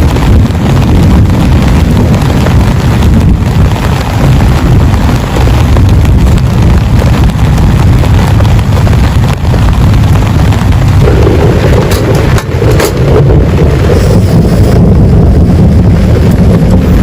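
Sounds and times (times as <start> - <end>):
heavy low rumble: 0.0 - 17.0
heavy rain pouring: 0.0 - 17.0.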